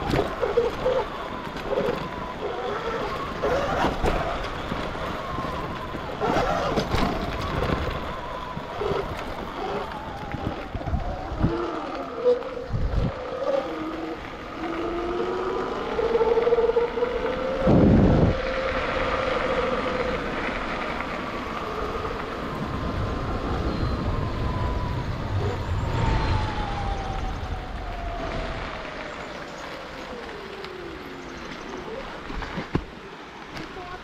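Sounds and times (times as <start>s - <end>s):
electric motor whine: 0.0s - 31.9s
wind and tyre rumble: 0.0s - 34.0s.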